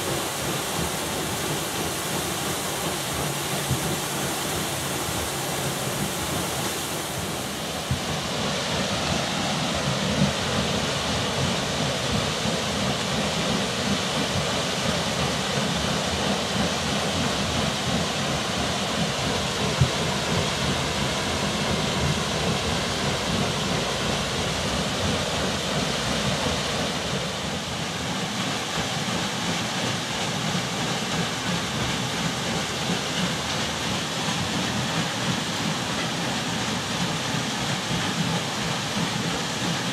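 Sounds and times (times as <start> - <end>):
water splashing from water wheel: 0.0 - 39.9.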